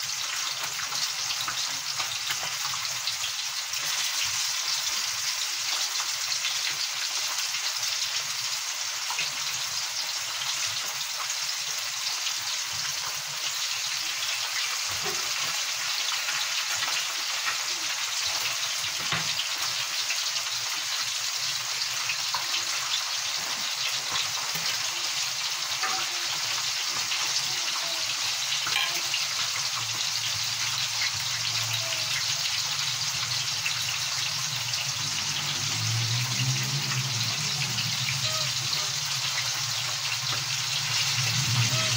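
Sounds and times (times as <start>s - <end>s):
fish frying in hot oil: 0.0s - 41.9s.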